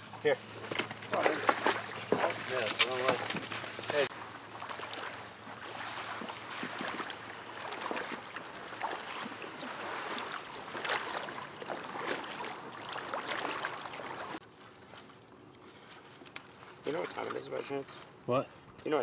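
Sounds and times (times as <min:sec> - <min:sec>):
water sloshing and splashing: 0:00.0 - 0:17.8
reeds rustling: 0:00.0 - 0:18.7.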